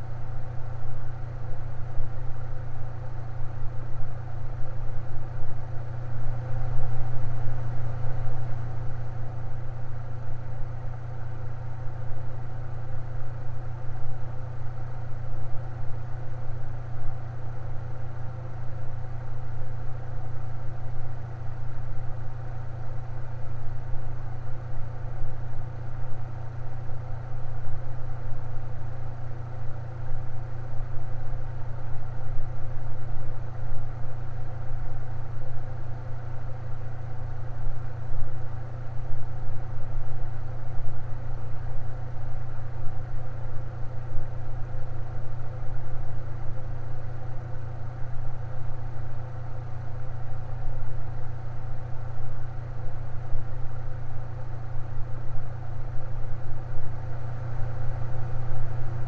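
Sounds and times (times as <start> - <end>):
electric fan running: 0.0 - 59.0.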